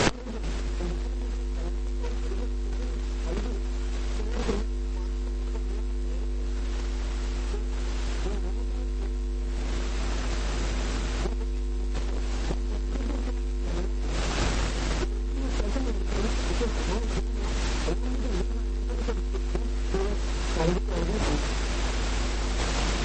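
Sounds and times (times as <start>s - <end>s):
background hiss: 0.0s - 23.0s
electrical mains hum: 0.0s - 23.0s.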